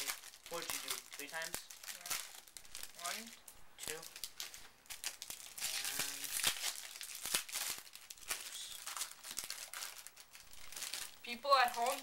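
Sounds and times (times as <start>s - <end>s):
plastic wrappers crinkling and tearing: 0.0s - 12.0s.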